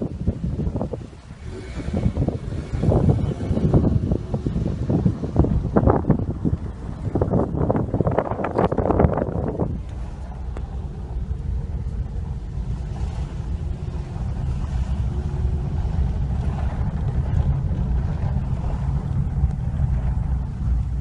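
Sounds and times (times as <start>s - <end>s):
car driving slowly: 0.0s - 21.0s
wind noise on microphone: 0.0s - 21.0s.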